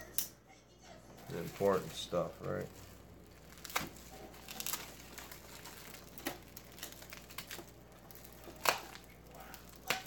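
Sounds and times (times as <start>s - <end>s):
packaging crinkling: 1.2s - 10.0s.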